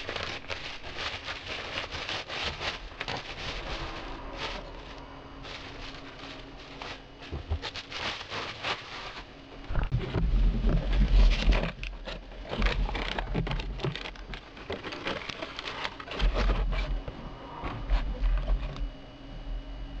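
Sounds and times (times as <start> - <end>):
plastic packaging crackling: 0.0 - 16.8
cardboard sliding: 0.0 - 17.0.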